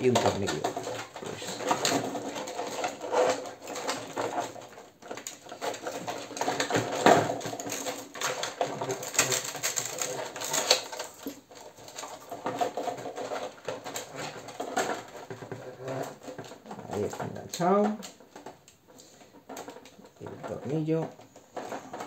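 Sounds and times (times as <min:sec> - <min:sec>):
hands rustling in plastic shell: 0:00.0 - 0:22.0.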